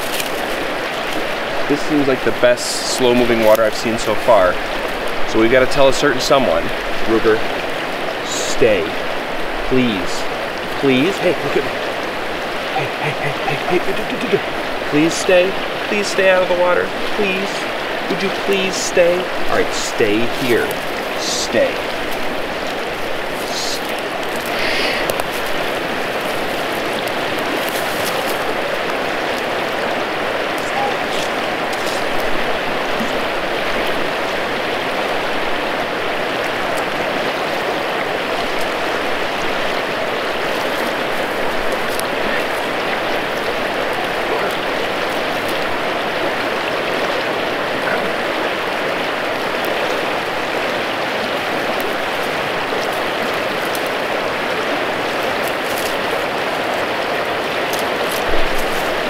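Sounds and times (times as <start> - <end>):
creek water rushing: 0.0 - 59.0.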